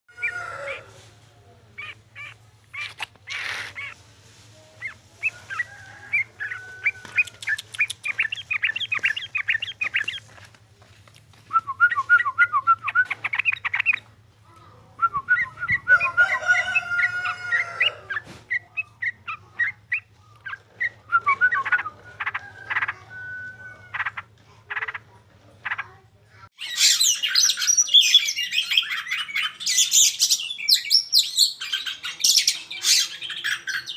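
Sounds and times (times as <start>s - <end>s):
songbird singing: 0.1s - 10.4s, 11.2s - 26.0s, 26.6s - 33.9s
high dense bird calls: 1.6s - 4.0s, 4.7s - 10.3s, 11.9s - 14.1s, 15.3s - 26.0s, 26.6s - 33.9s.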